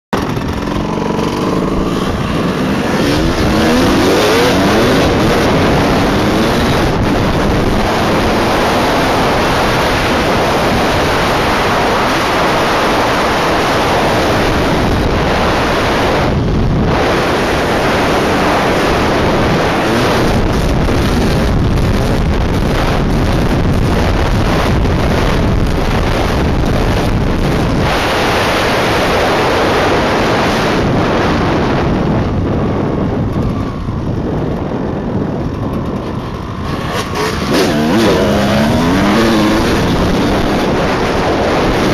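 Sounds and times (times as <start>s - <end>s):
wind rush on microphone: 0.1s - 41.9s
dirt bike engine revving: 0.2s - 41.9s.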